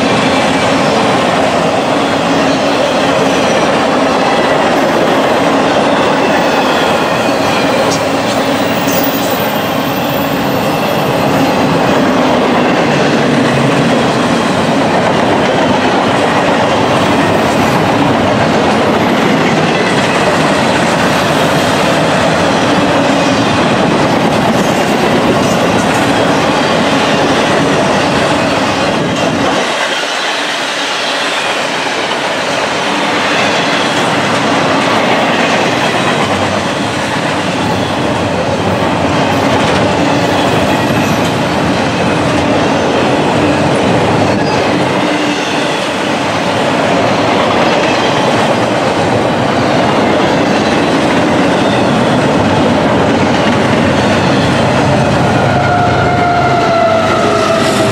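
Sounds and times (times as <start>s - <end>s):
freight train wheels rumbling on rails: 0.0s - 57.9s.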